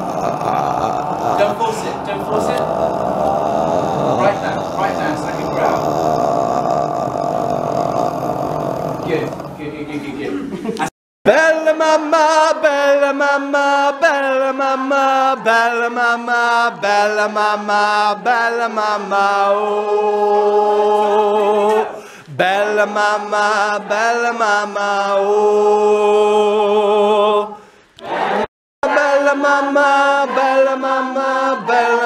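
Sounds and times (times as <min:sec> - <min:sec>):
choir singing unaccompanied: 0:00.0 - 0:10.5, 0:11.3 - 0:32.0.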